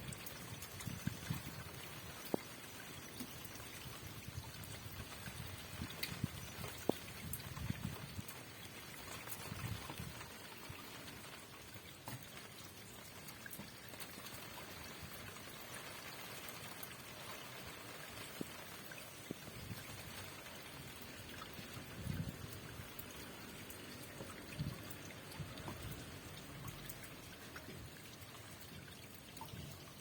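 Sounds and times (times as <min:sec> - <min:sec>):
rain falling: 0:00.0 - 0:30.0
running water: 0:00.0 - 0:30.0.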